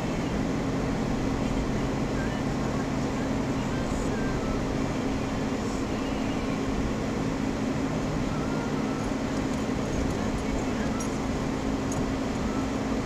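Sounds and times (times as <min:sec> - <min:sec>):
engine drone inside vehicle: 0:00.0 - 0:13.0
tyre and road noise: 0:00.0 - 0:13.0.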